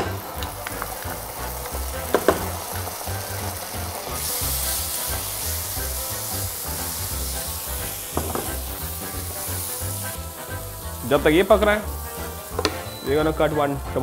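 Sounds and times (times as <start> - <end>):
paste sizzling in oil: 0.0 - 14.0.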